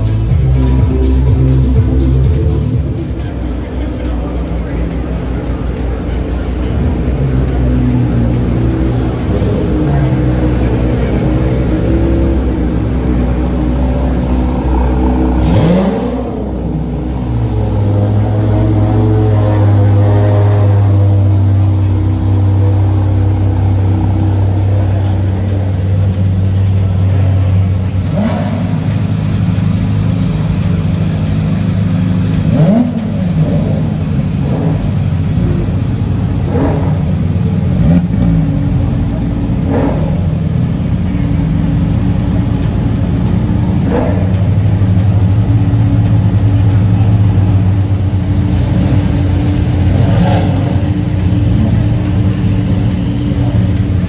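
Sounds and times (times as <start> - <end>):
car engines idling: 0.0 - 54.0
engine throttle blips: 0.0 - 54.0.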